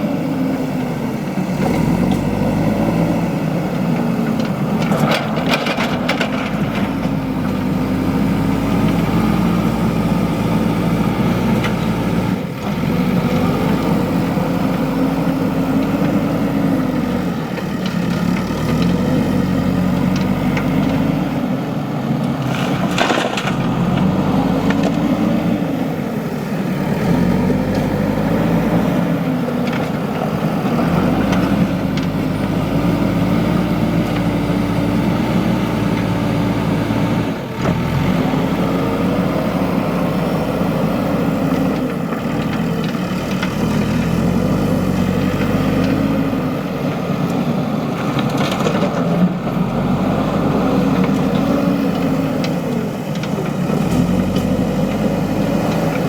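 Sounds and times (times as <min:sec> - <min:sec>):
backhoe loader diesel engine: 0:00.0 - 0:56.0.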